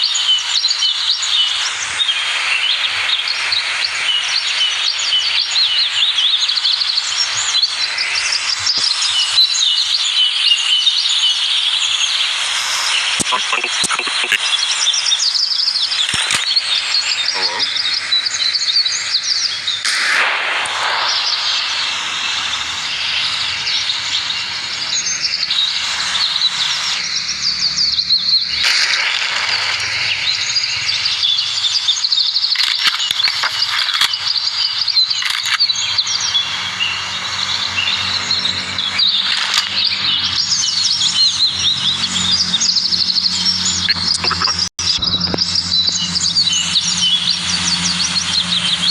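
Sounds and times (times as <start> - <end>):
birds chirping and singing: 0.0 - 19.8, 22.3 - 48.9.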